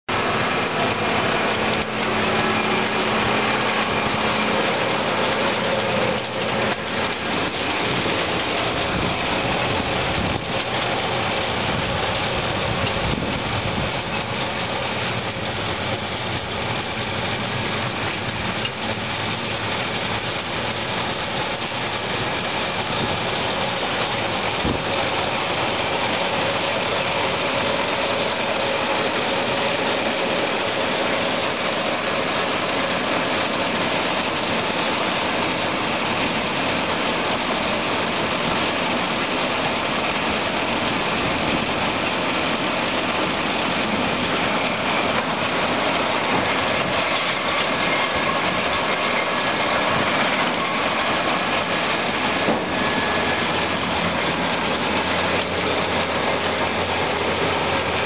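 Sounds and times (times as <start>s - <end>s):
tractor engine running under load: 0.1s - 58.0s.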